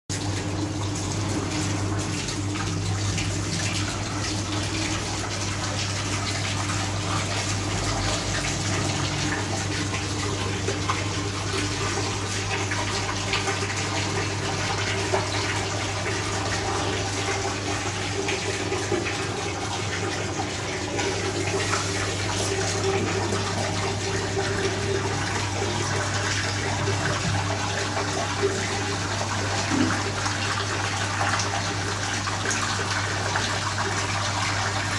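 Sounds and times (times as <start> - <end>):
water pouring into steel bowl: 1.0 - 34.9.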